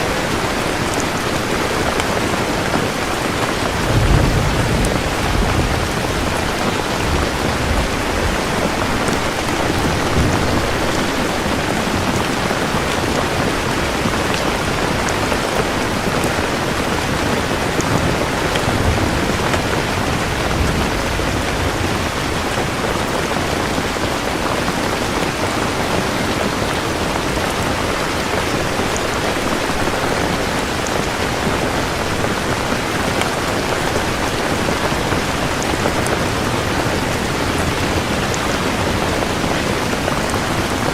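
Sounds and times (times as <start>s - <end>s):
steady rain pouring: 0.0s - 40.9s.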